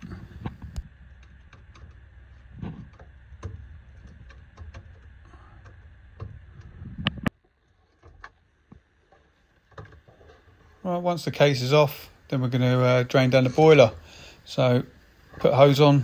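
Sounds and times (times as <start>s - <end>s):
low handling rumble: 0.0s - 16.0s.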